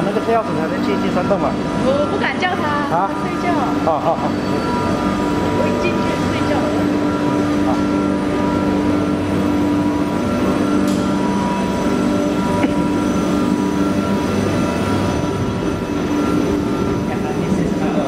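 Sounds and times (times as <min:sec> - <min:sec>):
factory machinery hum: 0:00.0 - 0:18.0.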